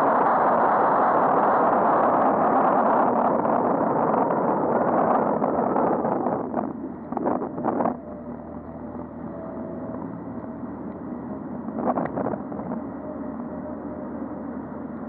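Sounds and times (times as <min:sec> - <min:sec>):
road traffic: 0:00.0 - 0:15.0
wind rumble: 0:00.0 - 0:15.0.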